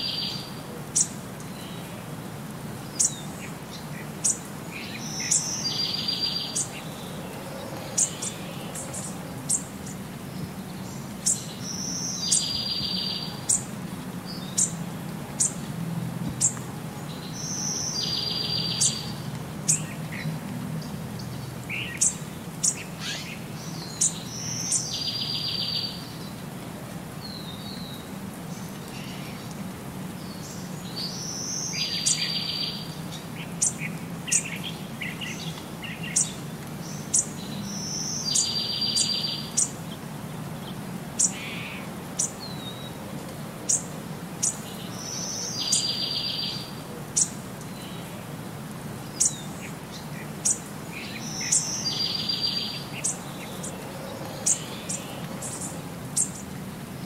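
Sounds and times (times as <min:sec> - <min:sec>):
birds chirping: 0:02.7 - 0:15.6, 0:16.3 - 0:26.4, 0:27.2 - 0:43.0, 0:43.6 - 0:48.4, 0:49.0 - 0:57.0.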